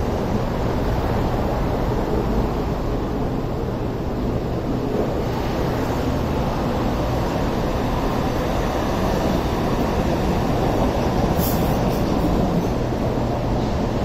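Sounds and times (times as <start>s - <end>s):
light rail train rumbling past: 0.0s - 14.0s.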